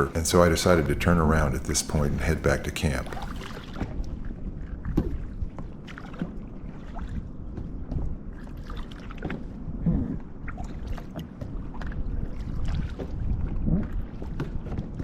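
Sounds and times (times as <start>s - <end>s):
low steady rumble: 0.0s - 15.0s
paddle splashing water: 1.4s - 15.0s.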